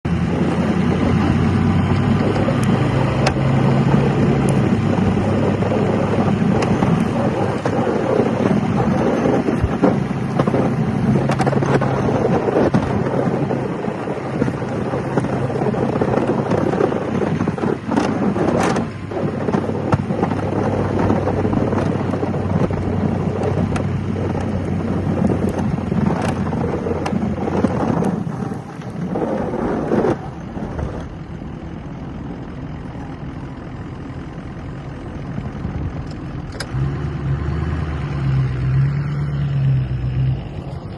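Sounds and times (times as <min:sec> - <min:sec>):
diesel truck engine running: 0:00.0 - 0:40.9
snow rushing off plow blade: 0:00.1 - 0:40.9.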